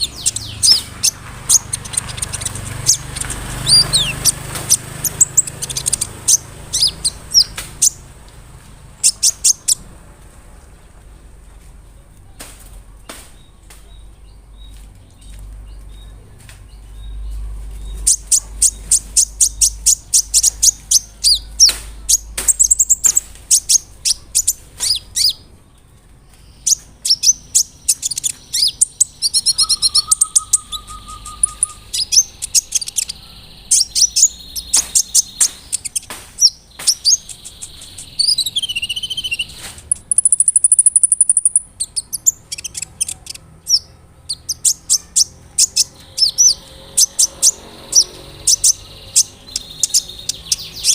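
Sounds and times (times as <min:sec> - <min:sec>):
sunbird singing: 0:00.0 - 0:09.9, 0:13.0 - 0:25.6, 0:26.2 - 0:50.9.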